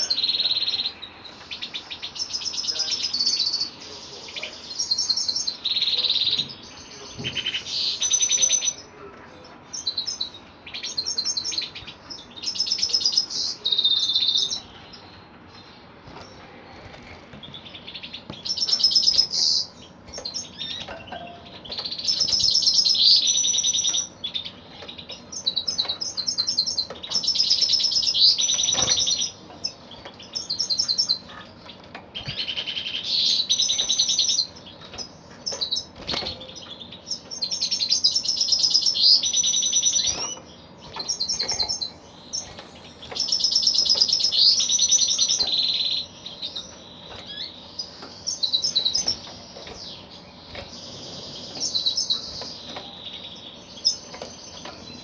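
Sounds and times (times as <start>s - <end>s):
goldfinch singing: 0.0s - 55.0s.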